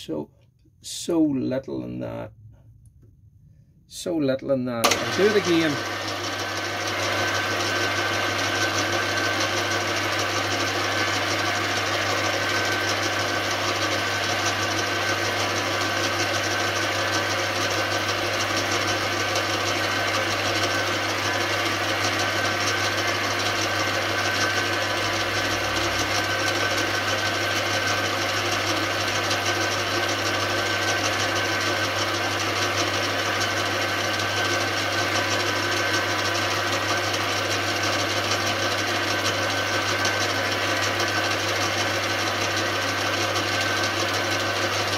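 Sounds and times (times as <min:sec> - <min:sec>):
lathe humming and whining: 0:04.8 - 0:44.9.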